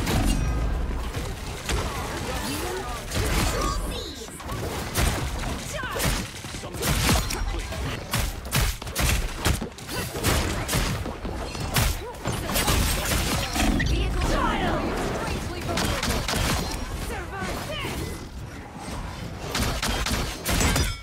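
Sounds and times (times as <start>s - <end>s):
video game gunfire: 0.0s - 18.0s, 19.4s - 21.0s.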